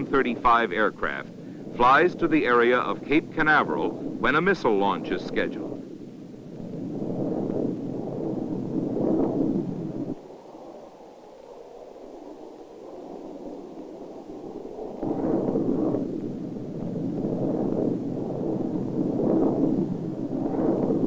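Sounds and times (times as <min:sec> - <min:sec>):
jet aircraft roaring in flight: 0:00.0 - 0:21.0.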